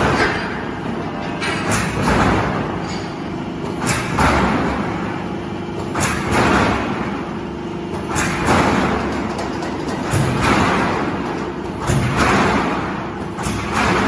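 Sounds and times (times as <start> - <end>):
machine knocking: 0.0 - 14.0.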